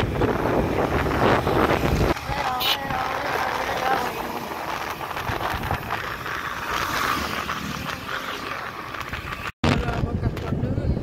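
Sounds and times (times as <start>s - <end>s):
motorbike engine: 0.0s - 9.5s
wind rushing over microphone: 0.0s - 11.0s.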